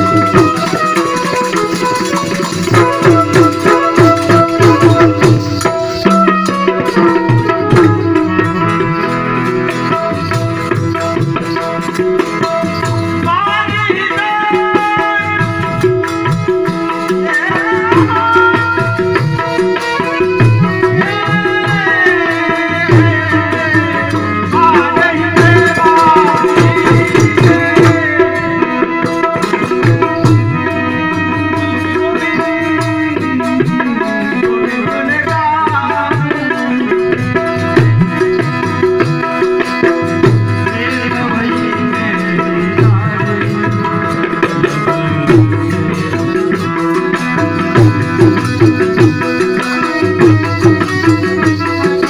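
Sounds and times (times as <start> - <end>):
held melodic tones: 0.0 - 52.0
steady drum beat: 0.0 - 52.0.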